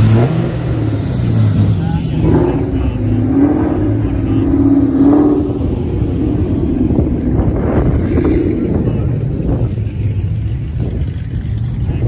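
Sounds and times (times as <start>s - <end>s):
cars with loud exhausts accelerating: 0.0s - 12.0s.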